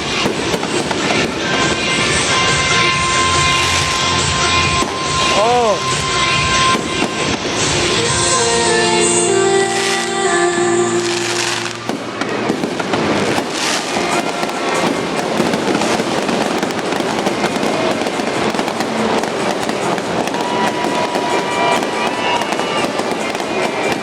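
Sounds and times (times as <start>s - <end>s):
firework bang: 0.0s - 8.2s, 11.0s - 24.0s
fireworks crackling and popping: 0.0s - 24.0s
music: 0.0s - 24.0s.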